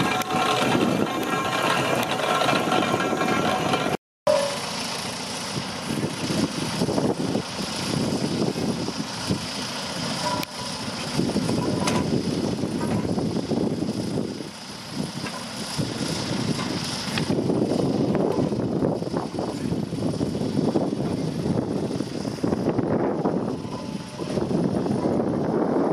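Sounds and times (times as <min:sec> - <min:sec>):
steam engine running: 0:00.0 - 0:25.9.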